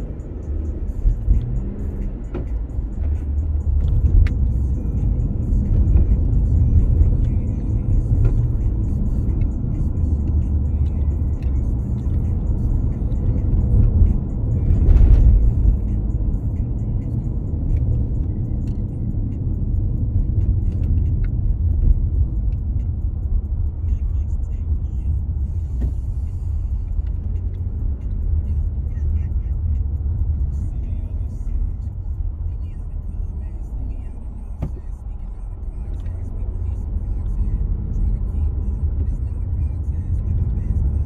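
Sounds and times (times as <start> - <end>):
car road noise rumble: 0.0 - 41.0.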